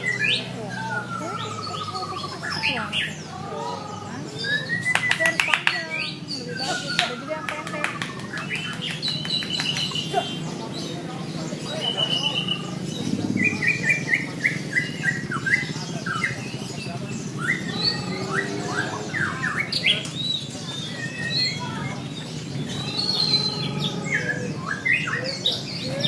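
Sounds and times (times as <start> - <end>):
songbirds singing whistled notes: 0.0 - 26.0.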